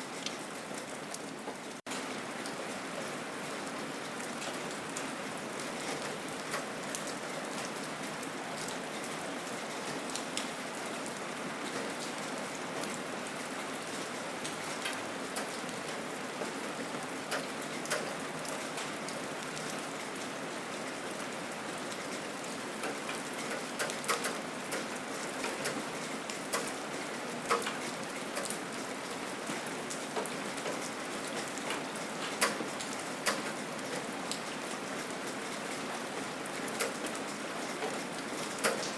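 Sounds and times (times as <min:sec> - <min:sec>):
raindrops striking close by: 0:00.0 - 0:38.9
steady rain hiss: 0:00.0 - 0:38.9.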